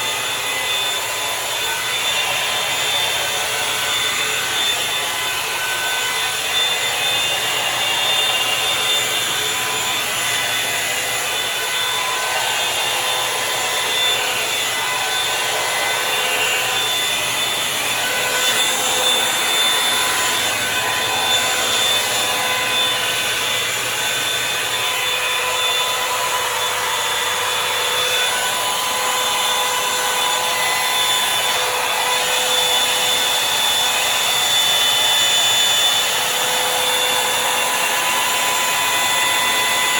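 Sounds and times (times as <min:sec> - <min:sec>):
hot-air brush dryer blowing: 0:00.0 - 0:39.9.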